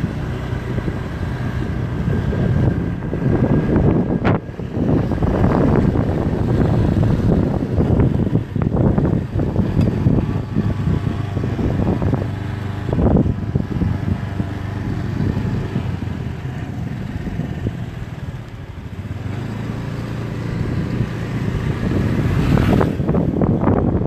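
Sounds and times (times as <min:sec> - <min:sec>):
motorcycle engine running: 0:00.0 - 0:24.0
wind rumbling on microphone: 0:00.0 - 0:24.0.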